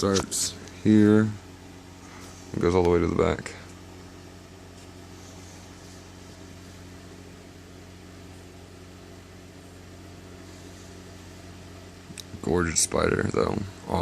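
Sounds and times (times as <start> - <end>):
low hum with faint hiss: 0.0 - 14.0.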